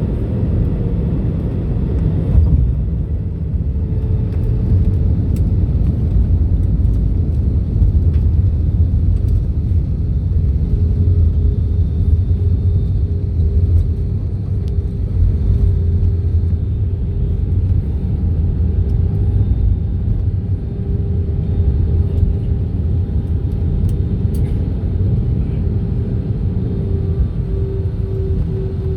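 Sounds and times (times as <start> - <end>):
airliner cabin rumble: 0.0 - 28.9.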